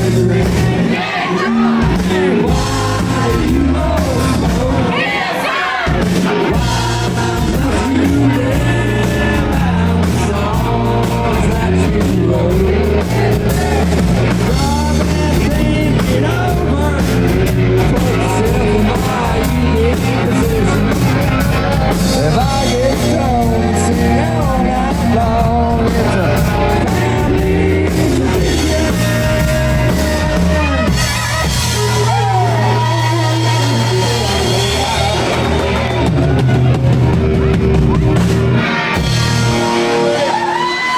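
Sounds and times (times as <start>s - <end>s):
person singing: 0.0s - 37.2s
drum kit: 0.0s - 40.9s
electric guitar: 5.8s - 40.9s.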